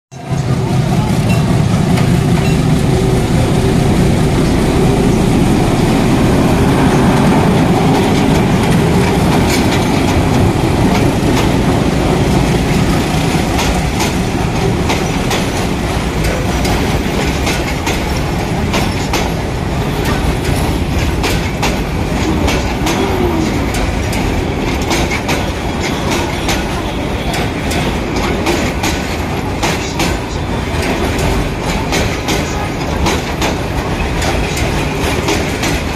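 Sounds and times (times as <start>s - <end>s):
train passing with heavy rumble: 0.1s - 35.9s
wheels clacking over rail joints: 0.2s - 35.9s.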